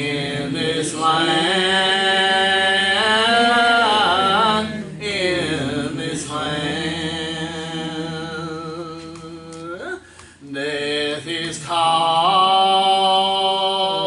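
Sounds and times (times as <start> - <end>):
person singing a hymn: 0.0 - 14.0.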